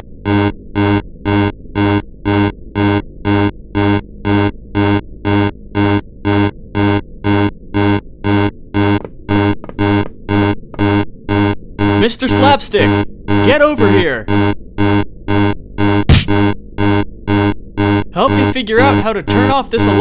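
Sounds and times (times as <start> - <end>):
electronic alarm buzzer pulses: 0.0 - 20.0.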